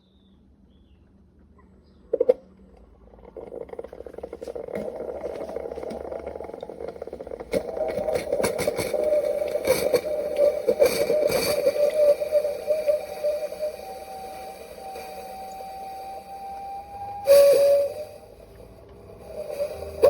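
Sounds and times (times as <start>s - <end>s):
coffee maker pump humming: 2.1s - 20.0s
water sputtering and crackling: 3.1s - 20.0s.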